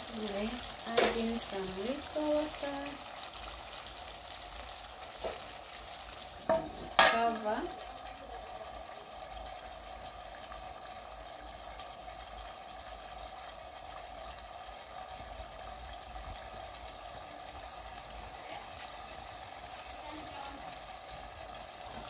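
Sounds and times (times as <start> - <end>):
vegetables sizzling in covered pan: 0.0 - 22.0.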